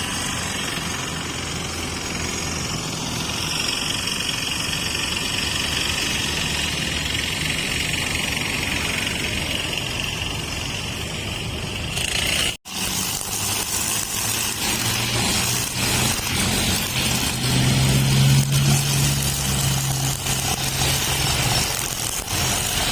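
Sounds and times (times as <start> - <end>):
brush cutter engine drone: 0.0 - 22.9.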